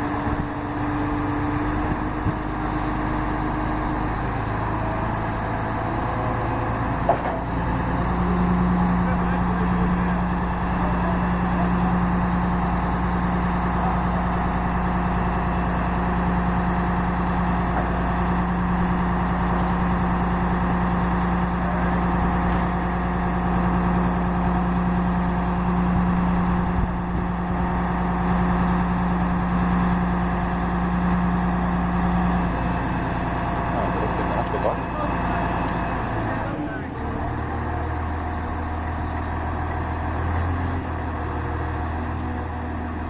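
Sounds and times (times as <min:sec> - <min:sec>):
crane engine humming: 0:00.0 - 0:43.0.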